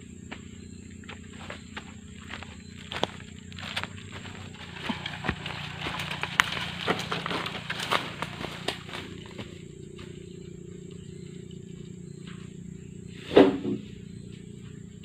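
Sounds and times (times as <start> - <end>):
faint steady background drone: 0.0 - 15.0
footsteps crunching through dry grass: 0.1 - 12.9.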